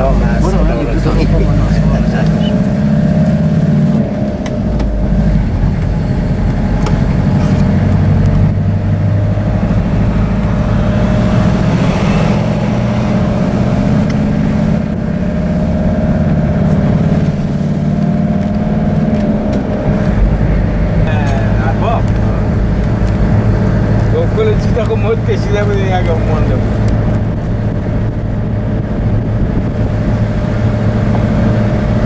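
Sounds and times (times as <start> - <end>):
van engine and road noise: 0.0 - 32.0.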